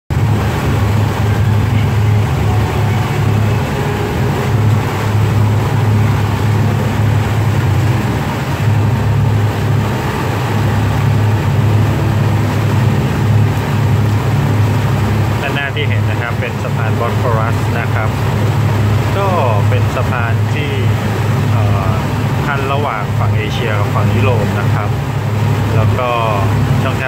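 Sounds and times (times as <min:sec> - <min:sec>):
boat engine droning: 0:00.1 - 0:27.0
rushing boat wake: 0:00.1 - 0:27.0.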